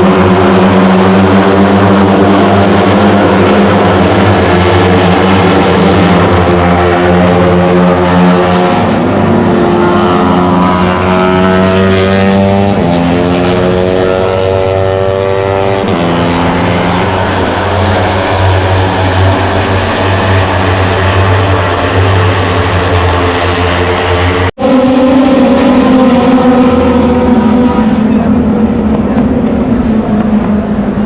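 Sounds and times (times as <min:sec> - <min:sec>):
race motorcycle engines revving: 0:00.0 - 0:31.0.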